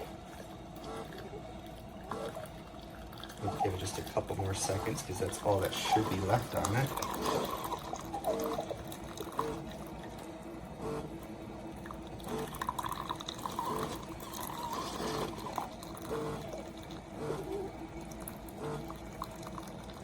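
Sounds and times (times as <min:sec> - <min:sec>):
coffee sputtering into a mug: 0:00.0 - 0:20.0.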